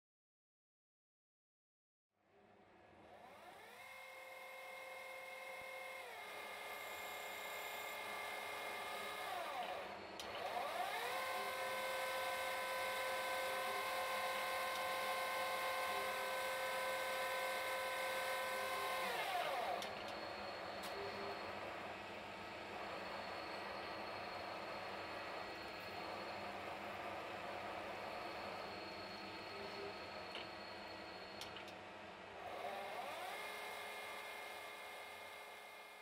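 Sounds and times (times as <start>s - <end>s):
lathe spindle whining: 3.2s - 31.8s, 32.4s - 36.0s.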